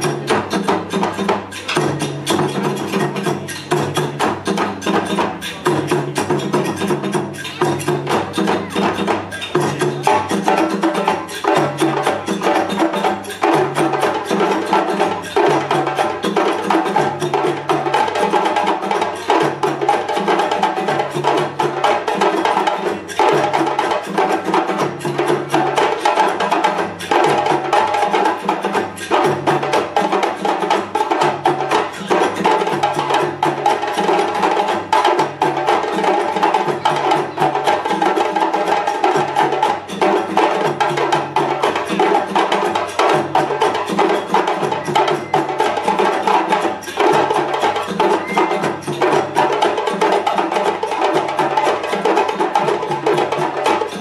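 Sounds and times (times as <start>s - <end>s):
djembe drumming: 0.0s - 54.0s.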